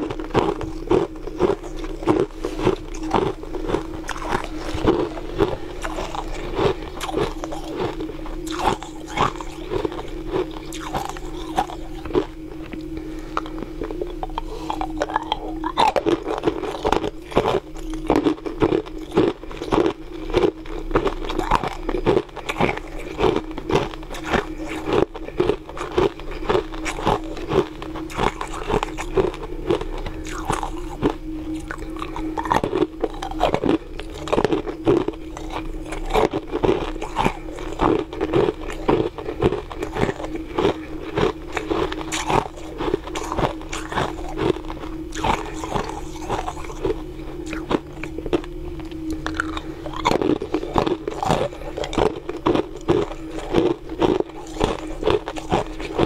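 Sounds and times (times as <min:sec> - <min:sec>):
chewing crunchy ice: 0:00.0 - 0:56.0
steady low hum: 0:00.0 - 0:56.0.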